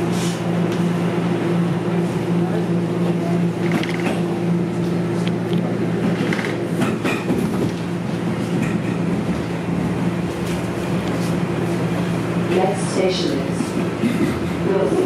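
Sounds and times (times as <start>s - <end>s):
subway train motor hum: 0.0s - 15.0s
wheels rumbling on rails: 0.0s - 15.0s.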